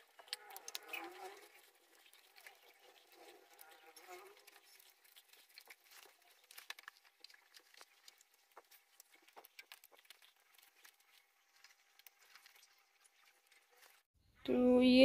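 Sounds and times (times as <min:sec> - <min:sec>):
hand spreading wet mud plaster: 0:00.0 - 0:14.1.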